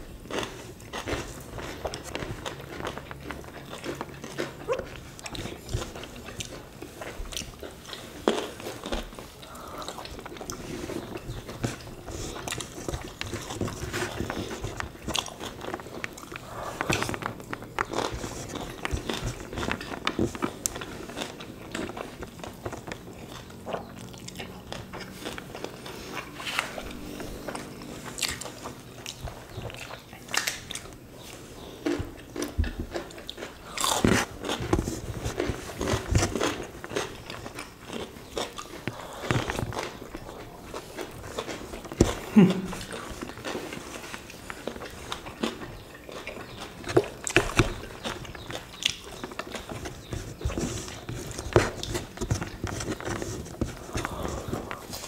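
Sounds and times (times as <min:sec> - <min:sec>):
people chewing food: 0:00.0 - 0:55.0.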